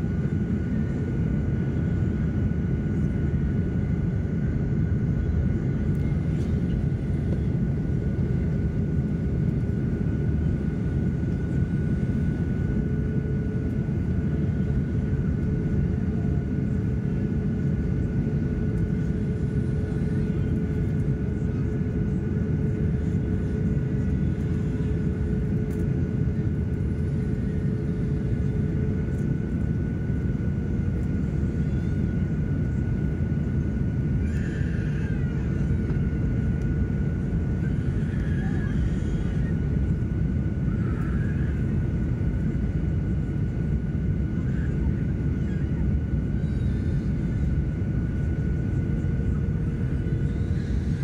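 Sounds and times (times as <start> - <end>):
aircraft engine and airflow rumble: 0.0 - 51.0
high-pitched engine whine: 0.0 - 51.0.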